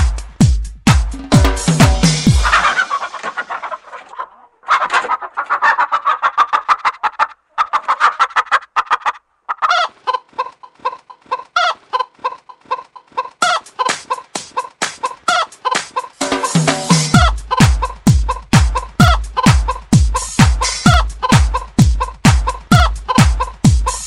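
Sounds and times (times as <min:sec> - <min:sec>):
chicken clucks in rhythm: 0:01.2 - 0:24.0.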